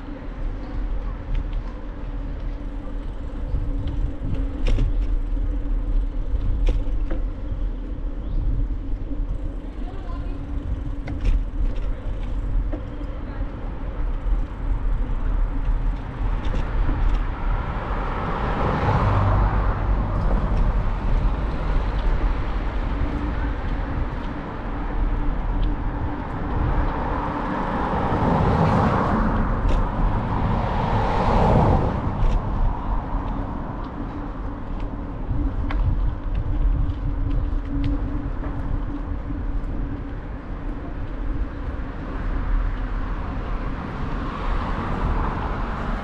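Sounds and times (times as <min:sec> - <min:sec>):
low traffic rumble: 0:00.0 - 0:46.0
vehicles passing: 0:00.0 - 0:46.0.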